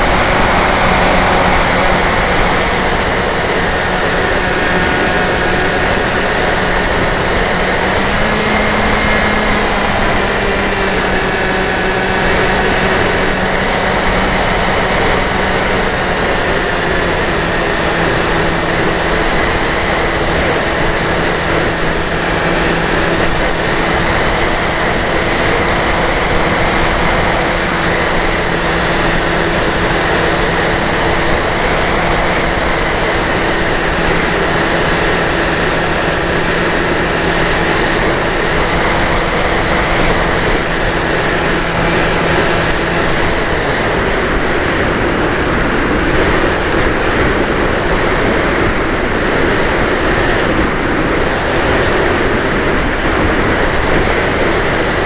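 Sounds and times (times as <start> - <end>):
electric motor and propeller drone: 0.0 - 55.0
wind rush: 0.0 - 55.0.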